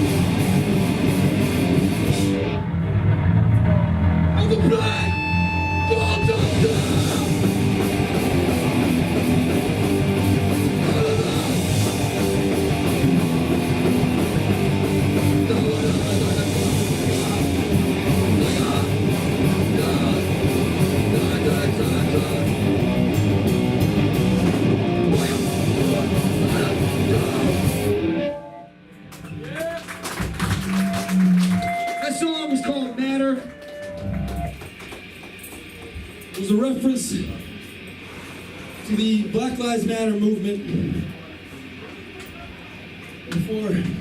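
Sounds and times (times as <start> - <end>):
punk band playing live: 0.0 - 28.4, 29.1 - 32.9, 33.5 - 38.4.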